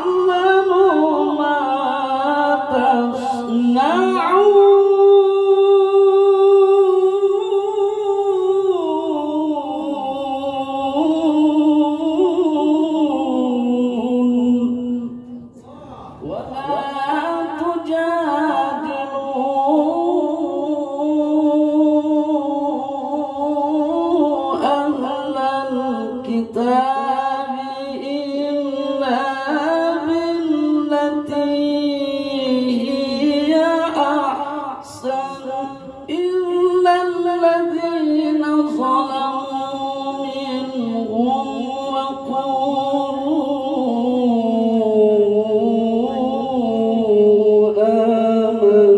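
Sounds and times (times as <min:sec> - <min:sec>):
man chanting melodically: 0:00.0 - 0:48.9.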